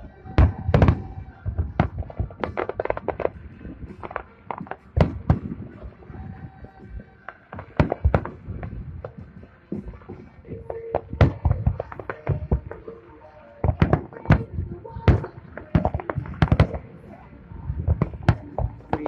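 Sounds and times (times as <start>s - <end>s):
fireworks banging: 0.0s - 19.0s.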